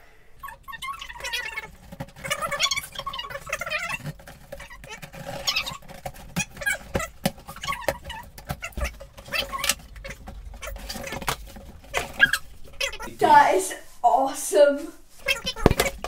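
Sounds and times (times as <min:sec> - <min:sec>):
cardboard packaging rustling: 0:00.4 - 0:13.4.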